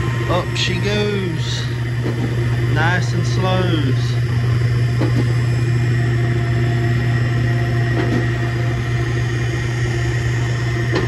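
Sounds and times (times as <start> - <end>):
fans humming: 0.0 - 11.0.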